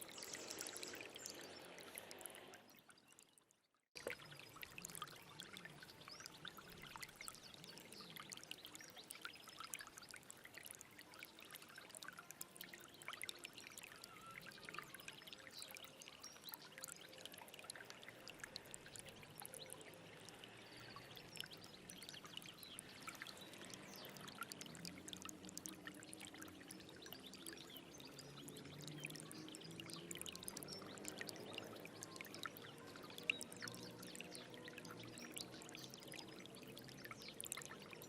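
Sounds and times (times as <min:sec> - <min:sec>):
stream babbling over stones: 0:00.0 - 0:03.2, 0:04.0 - 0:38.0.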